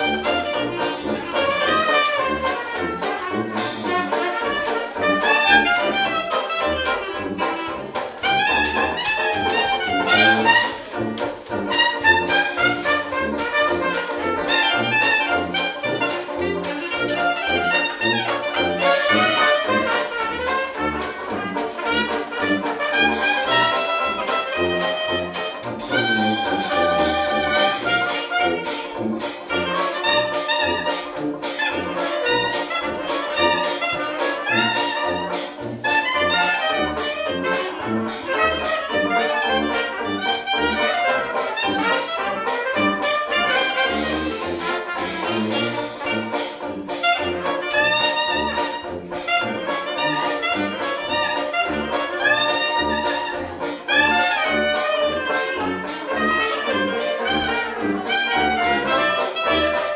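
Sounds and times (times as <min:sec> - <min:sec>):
banjo: 0:00.0 - 0:59.9
clarinet: 0:00.0 - 0:59.9
trumpet: 0:00.0 - 0:59.9
washboard rhythm: 0:00.0 - 0:59.9.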